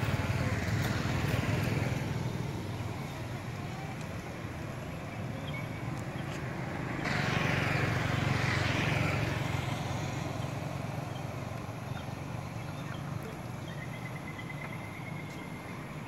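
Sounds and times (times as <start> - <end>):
vehicle passing: 0.0 - 15.6
distant traffic hum: 0.0 - 16.0.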